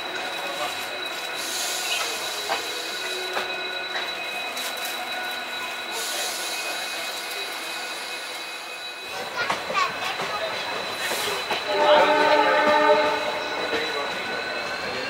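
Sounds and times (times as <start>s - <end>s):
train wheels squealing on rails: 0.0s - 15.0s.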